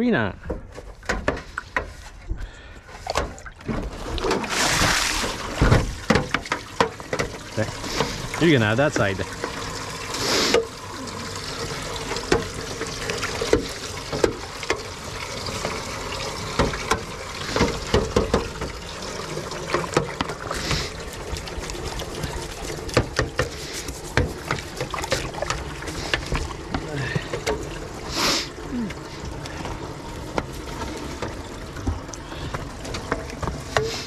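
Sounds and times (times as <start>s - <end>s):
horse slurping water: 2.9s - 34.0s
water splashing in metal trough: 3.0s - 34.0s.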